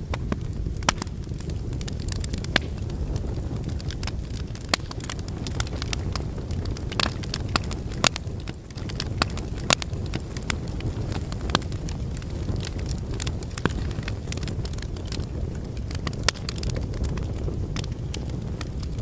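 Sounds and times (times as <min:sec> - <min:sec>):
logs burning in fireplace: 0:00.0 - 0:19.0.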